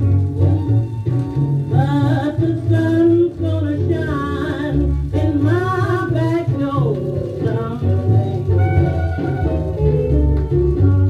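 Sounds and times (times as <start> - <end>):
old blues jazz band recording: 0.0 - 11.0.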